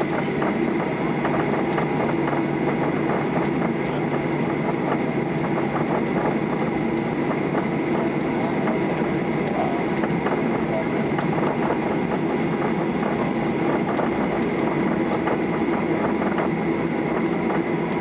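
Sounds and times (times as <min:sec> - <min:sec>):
jet engines at low thrust: 0:00.0 - 0:18.0
wheels rumbling on taxiway: 0:00.0 - 0:18.0.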